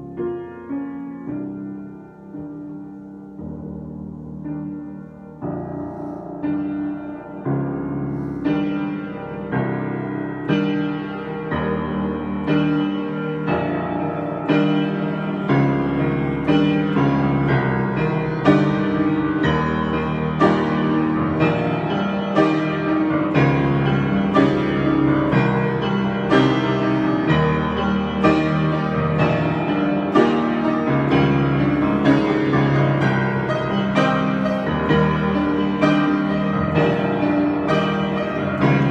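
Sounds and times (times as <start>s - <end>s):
piano notes and chords: 0.0s - 38.9s.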